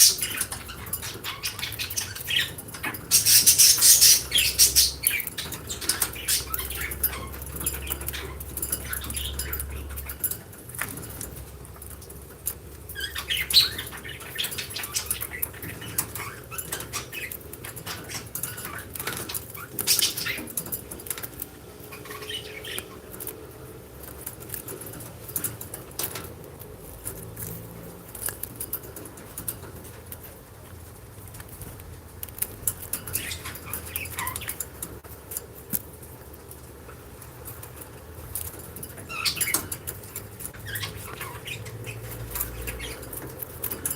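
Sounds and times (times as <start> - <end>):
lovebirds high chirps: 0.0 - 26.3, 32.4 - 35.4, 37.4 - 43.9.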